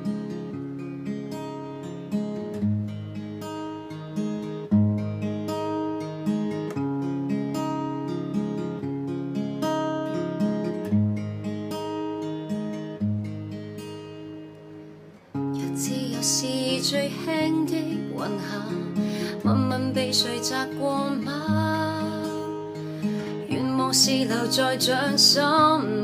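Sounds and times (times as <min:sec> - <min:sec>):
guitar chords strummed: 0:00.0 - 0:26.0.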